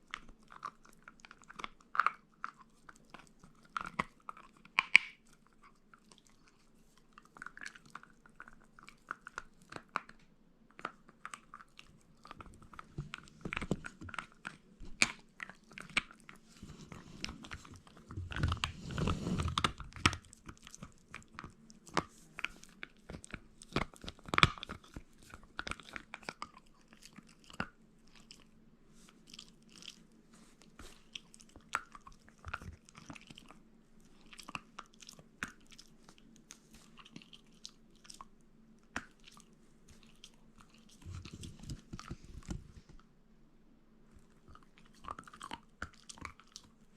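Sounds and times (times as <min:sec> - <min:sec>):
dog chewing and crunching meat: 0:00.0 - 0:10.2, 0:10.8 - 0:43.0, 0:44.1 - 0:46.9.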